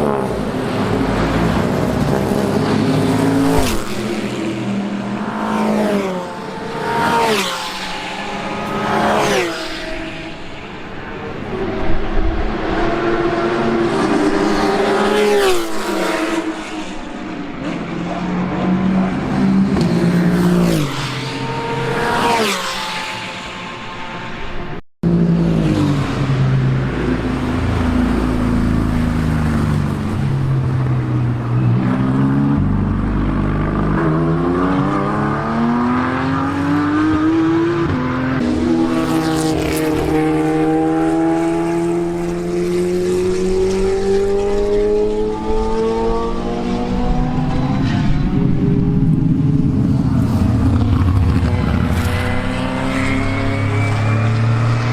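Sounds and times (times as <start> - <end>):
racing car engines passing: 0.0 - 54.9.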